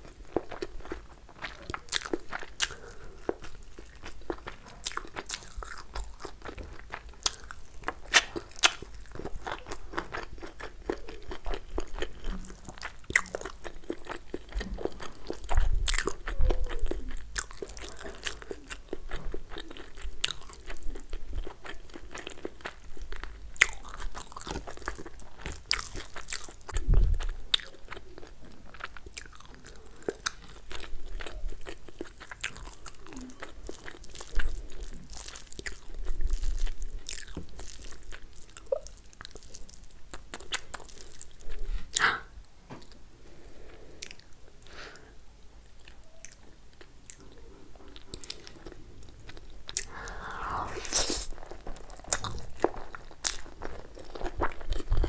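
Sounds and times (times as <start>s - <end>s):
chewing and biting food: 0.0s - 42.0s, 44.0s - 44.7s, 45.6s - 55.0s.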